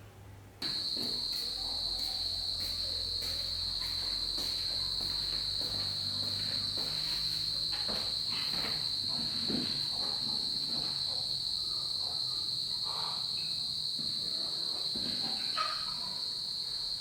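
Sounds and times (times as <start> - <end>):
insects chirring: 0.6 - 17.0.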